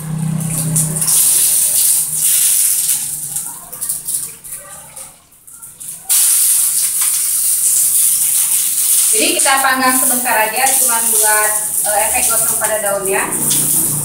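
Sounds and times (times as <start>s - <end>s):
food sizzling in frying pan: 0.0s - 4.2s, 6.0s - 14.0s.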